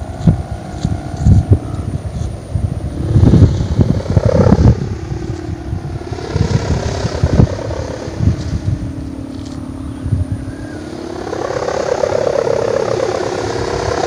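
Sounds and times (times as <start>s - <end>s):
kite hummer droning: 0.0s - 14.0s
wind buffeting microphone: 0.0s - 14.0s.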